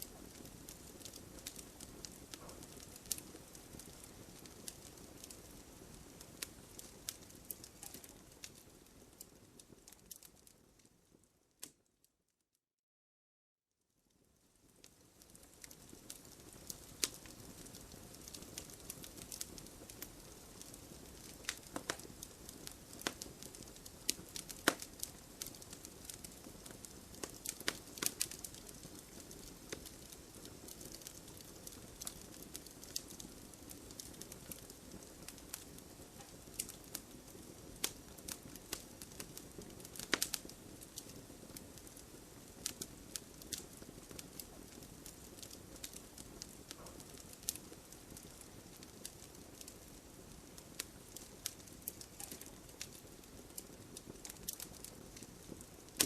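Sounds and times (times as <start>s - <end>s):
low rush of flames: 0.0s - 10.9s, 14.2s - 56.0s
wood fire crackling: 0.0s - 11.9s, 14.1s - 56.0s.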